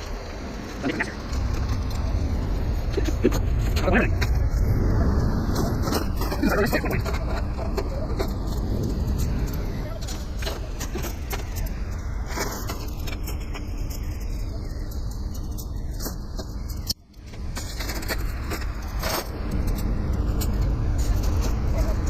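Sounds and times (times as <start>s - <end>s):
low vehicle rumble: 0.0s - 22.0s.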